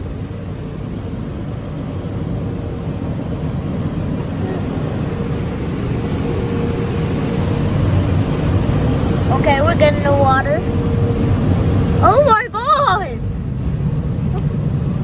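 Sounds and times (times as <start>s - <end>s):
faint steady hum: 0.0s - 14.8s
car wash equipment rumbling: 0.0s - 15.0s.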